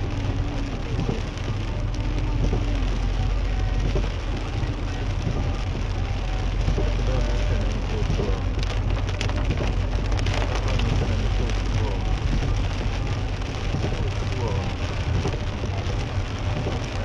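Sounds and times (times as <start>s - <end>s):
car engine and tyres rumbling: 0.0s - 17.0s
heavy rain on car roof: 0.0s - 17.0s.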